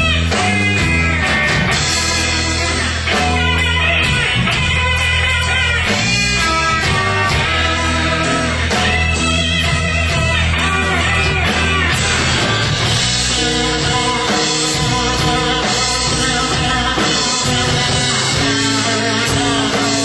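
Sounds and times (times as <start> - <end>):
electric guitar: 0.0 - 20.0
live blues band playing: 0.0 - 20.0.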